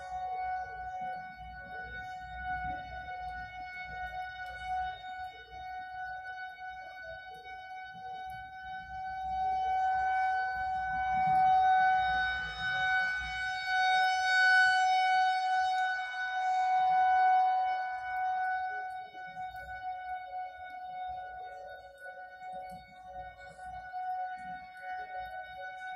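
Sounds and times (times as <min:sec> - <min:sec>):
warning siren steady tone: 0:00.0 - 0:25.9.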